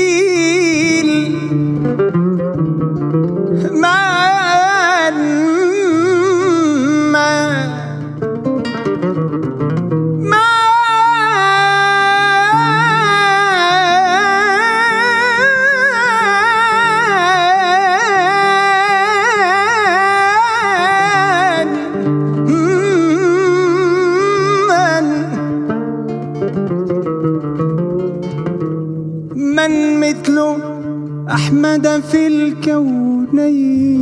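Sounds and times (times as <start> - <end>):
man singing with vibrato: 0.0 - 27.2, 29.3 - 34.0
plucked strings: 0.0 - 34.0.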